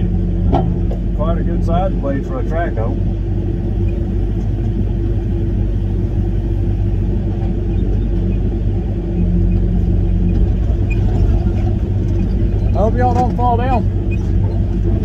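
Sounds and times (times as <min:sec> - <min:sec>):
excavator diesel engine from cab: 0:00.0 - 0:15.0.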